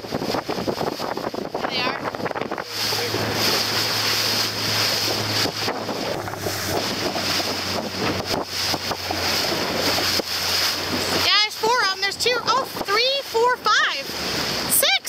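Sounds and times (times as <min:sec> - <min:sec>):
wind buffeting microphone: 0:00.0 - 0:14.8
boat motor drone: 0:00.0 - 0:15.0
water rushing past hull: 0:00.0 - 0:15.0.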